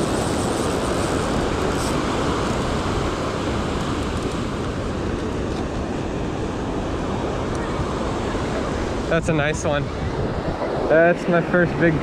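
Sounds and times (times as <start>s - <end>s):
surf washing up beach: 0.0s - 12.0s
wind on microphone: 0.0s - 12.0s.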